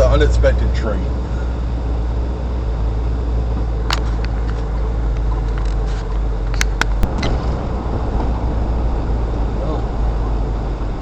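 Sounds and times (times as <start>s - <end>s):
car rumbling on dirt road: 0.0s - 11.0s.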